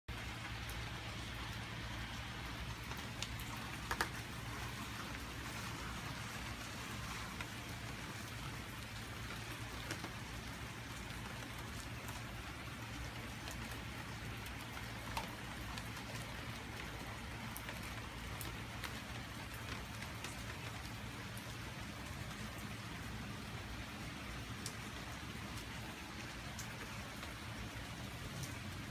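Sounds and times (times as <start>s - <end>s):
steady rain falling: 0.1s - 28.9s.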